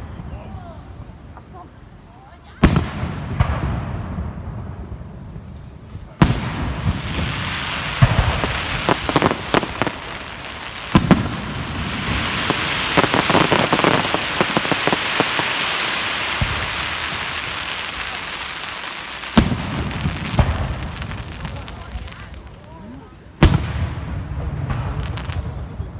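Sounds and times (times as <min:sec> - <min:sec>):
firework crackling: 0:00.0 - 0:25.9
firework bangs: 0:02.6 - 0:25.9.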